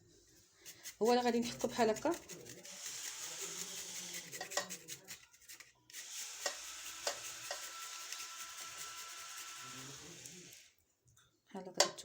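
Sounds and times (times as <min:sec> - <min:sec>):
garlic being grated: 0:00.6 - 0:10.5.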